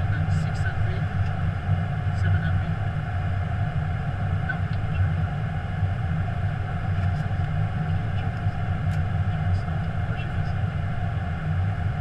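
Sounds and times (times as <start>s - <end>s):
airplane cockpit rumble: 0.0s - 12.0s.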